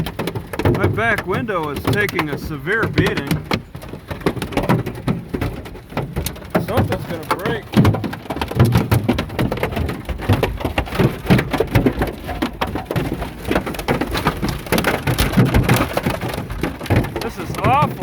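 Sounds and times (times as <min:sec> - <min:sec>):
hail hitting a car: 0:00.0 - 0:18.0
rain: 0:00.0 - 0:18.0.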